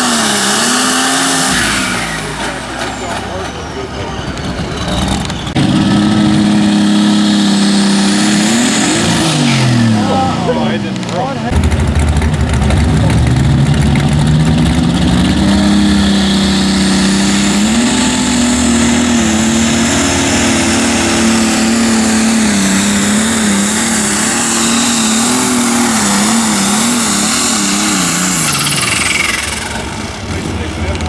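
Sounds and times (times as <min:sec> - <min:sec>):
tractor diesel engine at full throttle: 0:00.0 - 0:31.0.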